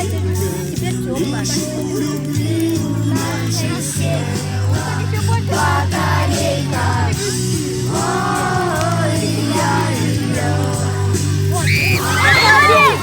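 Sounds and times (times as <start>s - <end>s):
rock song with singing: 0.0s - 13.0s
steady bass line: 0.0s - 13.0s.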